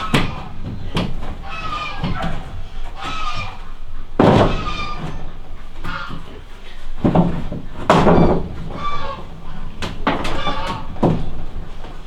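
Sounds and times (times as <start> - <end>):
wooden boards knocking: 0.0 - 12.0.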